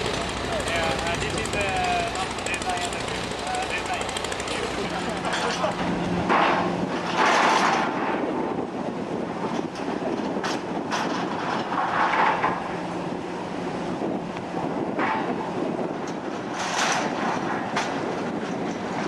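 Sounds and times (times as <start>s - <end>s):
construction machinery running: 0.0s - 19.0s.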